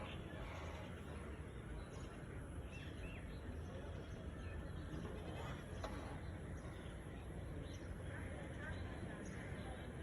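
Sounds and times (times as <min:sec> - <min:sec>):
faint bird chirp: 0:00.0 - 0:10.0
outdoor background noise: 0:00.0 - 0:10.0.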